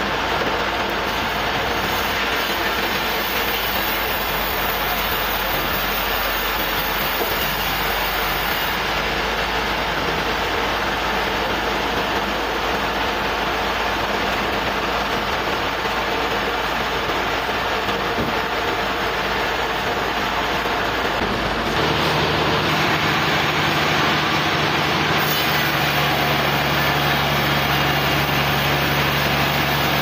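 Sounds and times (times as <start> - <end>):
sawmill engine and saw running: 0.0 - 30.0.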